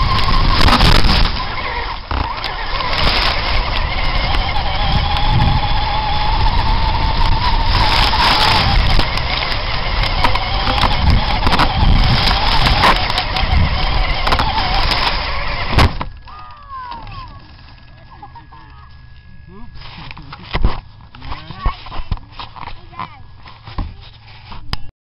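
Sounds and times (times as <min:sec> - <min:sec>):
rc truck motor whining: 0:00.0 - 0:24.9.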